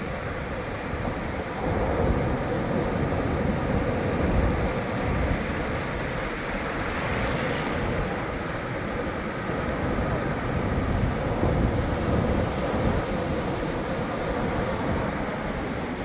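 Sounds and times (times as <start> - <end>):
ocean waves breaking: 0.5 - 16.0.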